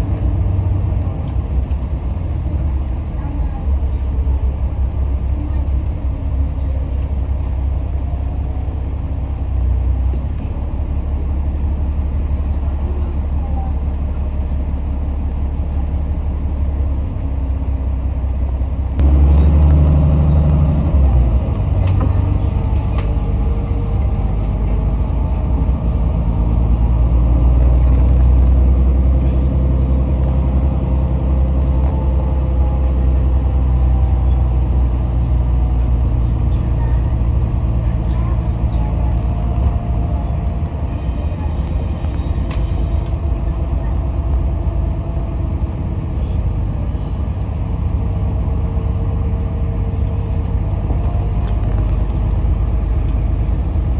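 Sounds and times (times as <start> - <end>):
bus engine rumble: 0.0 - 53.9
road noise: 0.0 - 53.9.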